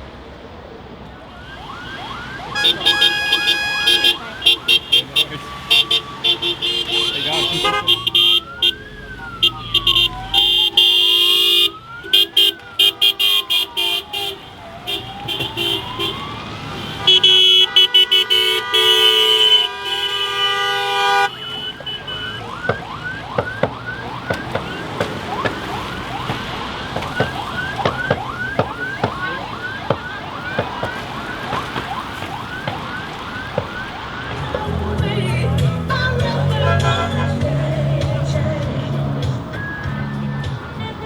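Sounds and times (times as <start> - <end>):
siren wailing: 1.1 - 41.0
siren yelp: 1.1 - 41.0
horn blasts: 1.5 - 41.0.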